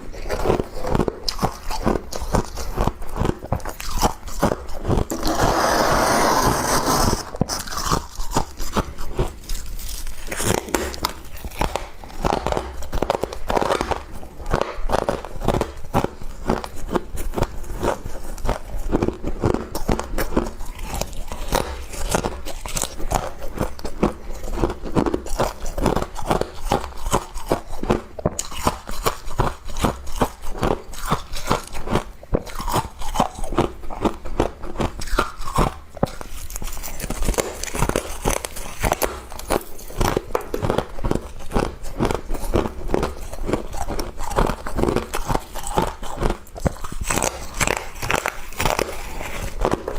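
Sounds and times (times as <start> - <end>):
crunching and chewing frost: 0.0 - 49.9.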